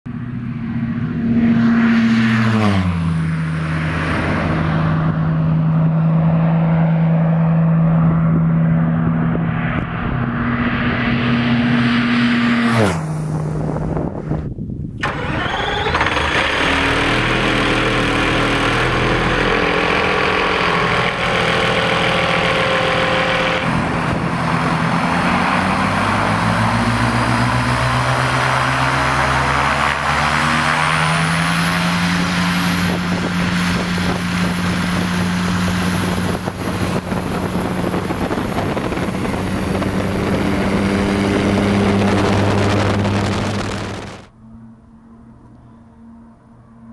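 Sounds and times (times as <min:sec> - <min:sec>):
aircraft engine revving: 0:00.1 - 0:46.2
plane passing low: 0:00.1 - 0:46.9.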